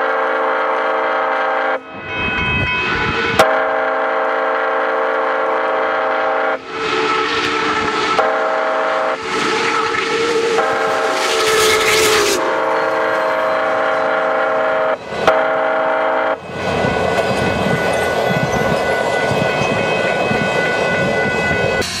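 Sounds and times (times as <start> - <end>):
steam locomotive whistle: 0.0 - 22.0
train cars rumbling past: 0.0 - 22.0.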